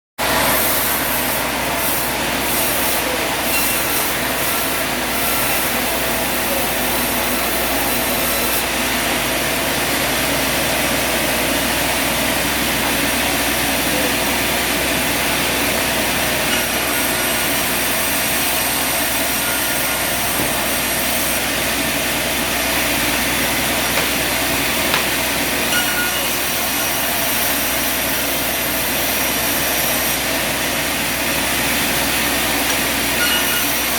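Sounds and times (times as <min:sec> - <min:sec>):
saw cutting through wood: 0:00.2 - 0:33.9
sawmill machinery running: 0:00.2 - 0:33.9.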